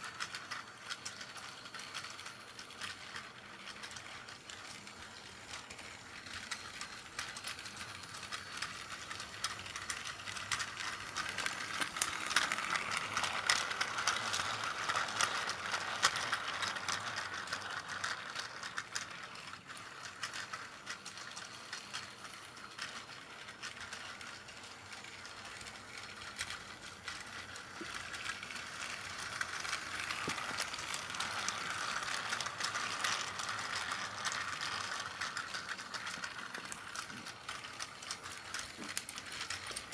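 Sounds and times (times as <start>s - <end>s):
plastic wheels clicking on track: 0.0s - 39.9s
toy train motor whirring: 0.0s - 39.9s.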